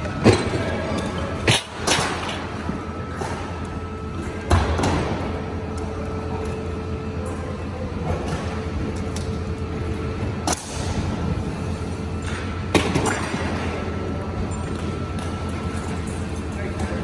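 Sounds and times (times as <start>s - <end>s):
low mechanical hum of machinery: 0.0s - 17.0s.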